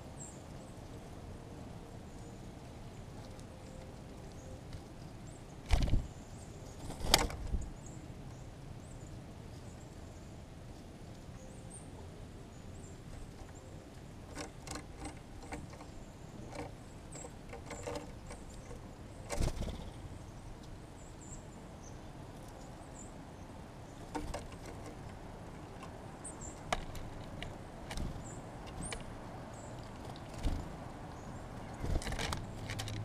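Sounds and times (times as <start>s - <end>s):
small birds chirping: 1.9s - 33.0s.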